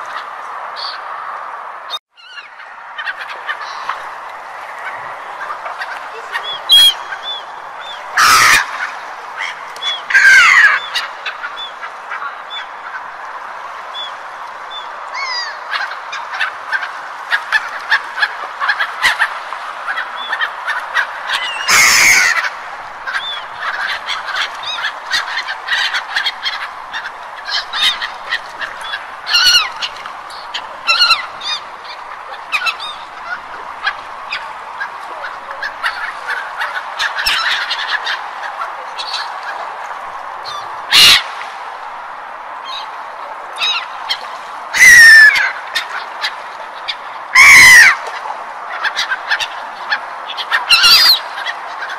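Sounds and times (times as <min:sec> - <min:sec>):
gulls calling: 0:00.0 - 0:51.9.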